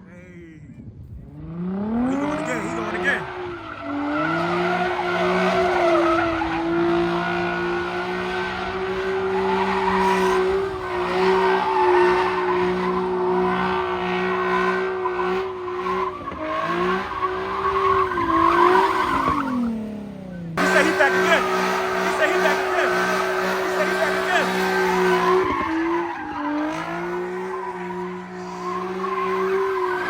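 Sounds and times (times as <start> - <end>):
car engine revving: 1.2 - 30.0
tyres squealing: 2.4 - 19.7, 20.6 - 30.0.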